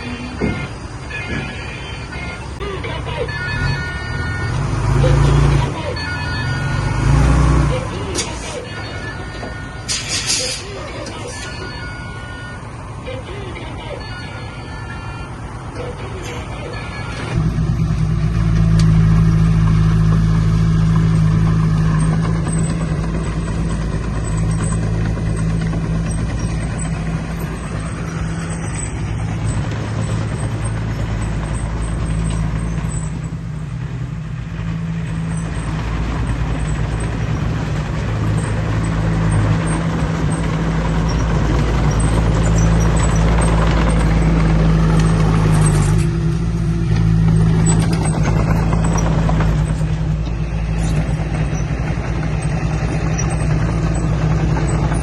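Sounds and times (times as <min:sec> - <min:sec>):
heavy diesel machinery drone: 0:00.0 - 0:55.0.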